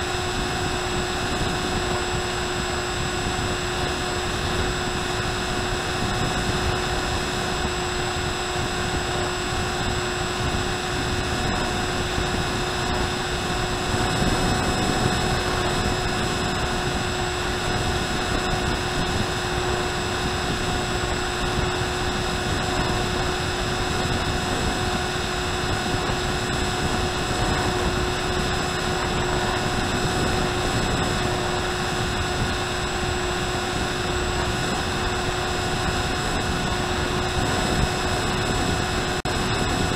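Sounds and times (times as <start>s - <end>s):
electric motor propeller whine: 0.0s - 39.9s
wind noise: 0.0s - 39.9s.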